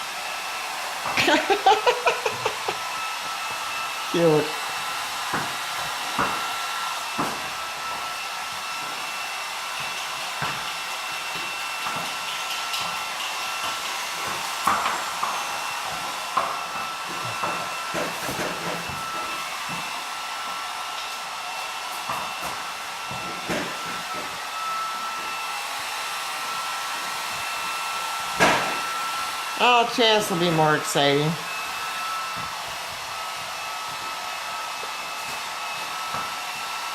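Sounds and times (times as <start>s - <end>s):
hair dryer blowing: 0.0s - 36.9s.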